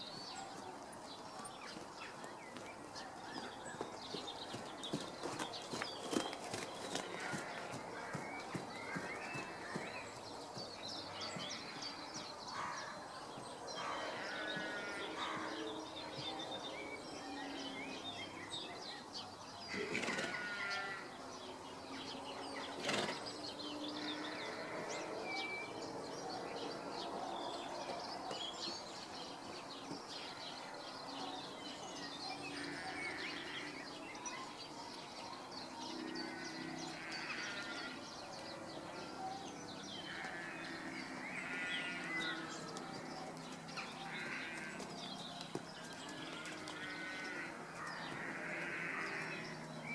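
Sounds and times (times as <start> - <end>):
birds chirping and trilling: 0.0 - 49.9
outdoor background noise: 0.0 - 49.9.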